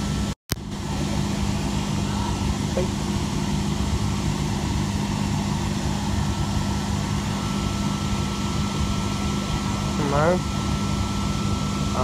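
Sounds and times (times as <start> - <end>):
train running gear hum: 0.0 - 12.0.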